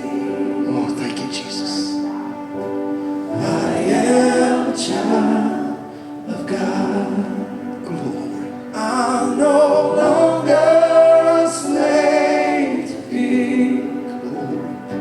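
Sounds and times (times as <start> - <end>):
gospel music: 0.0 - 15.0
group of voices singing: 0.0 - 15.0.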